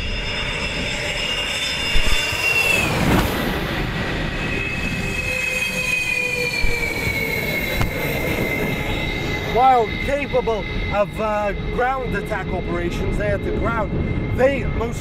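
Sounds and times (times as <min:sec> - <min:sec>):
jet engines whining: 0:00.0 - 0:15.0
rush of engine noise: 0:00.0 - 0:15.0.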